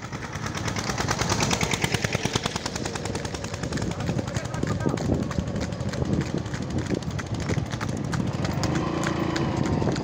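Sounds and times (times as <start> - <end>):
bull hoofbeats: 0.0 - 10.0
cart wheels clattering: 0.0 - 10.0.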